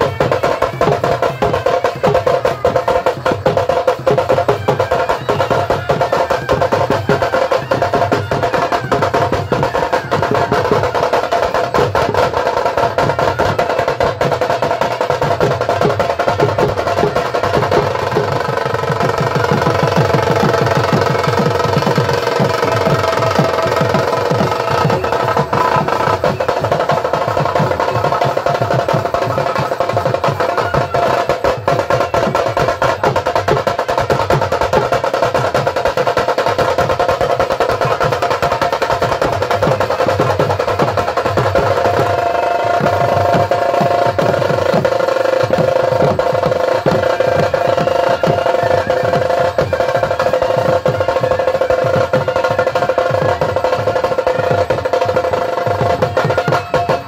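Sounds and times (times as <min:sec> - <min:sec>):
rapid snare drumming: 0:00.0 - 0:57.0.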